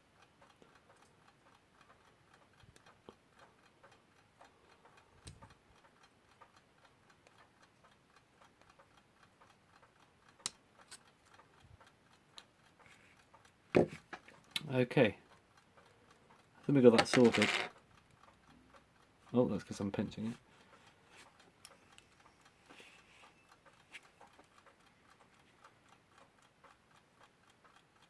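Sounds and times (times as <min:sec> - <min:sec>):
alarm clock ticking softly: 0:00.0 - 0:28.0.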